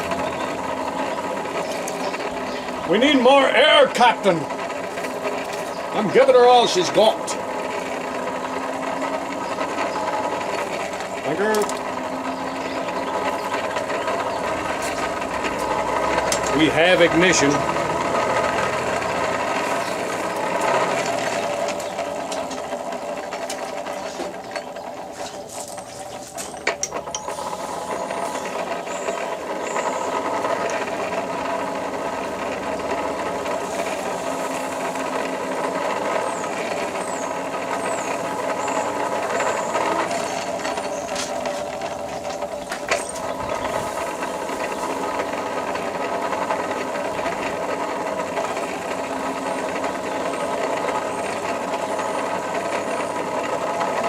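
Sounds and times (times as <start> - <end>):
forge blower running: 0.0 - 54.0.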